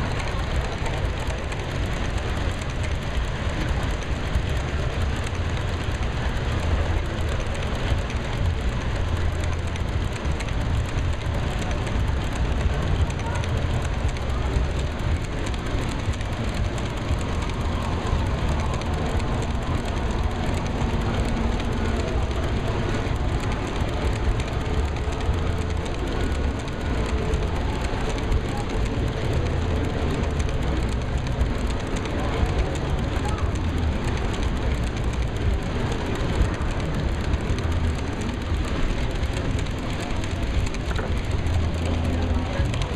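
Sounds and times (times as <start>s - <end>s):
model train rumbling: 0.0s - 42.9s
wheels clicking on track: 0.0s - 42.9s.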